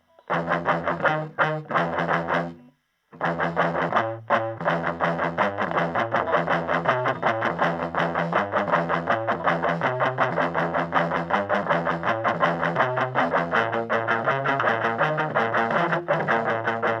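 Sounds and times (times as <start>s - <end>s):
electric guitar picked notes: 0.0s - 17.0s.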